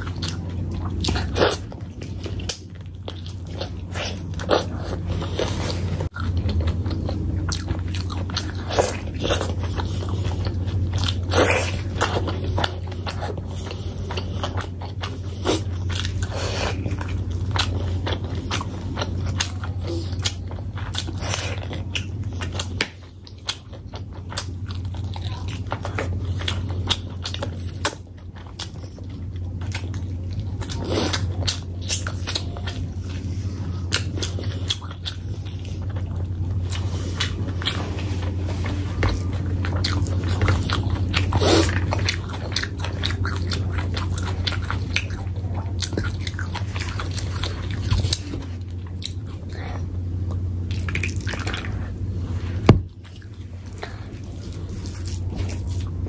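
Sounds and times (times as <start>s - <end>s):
close chewing of food: 0.0s - 56.0s
steady low hum: 0.0s - 56.0s.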